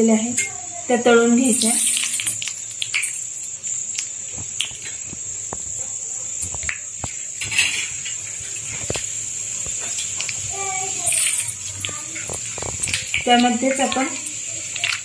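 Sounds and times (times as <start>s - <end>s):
frying in hot oil sizzle: 0.0s - 15.0s
small crackling pops: 1.8s - 15.0s.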